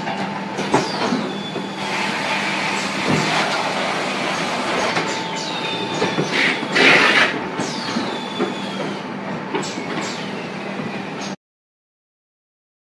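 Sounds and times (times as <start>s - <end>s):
conveyor clatter: 0.0s - 11.4s
machine hum: 0.0s - 11.4s.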